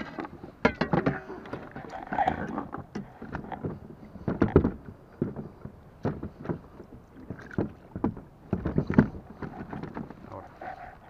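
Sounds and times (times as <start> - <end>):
knocks and clunks of kayak pedal drive: 0.0 - 10.4.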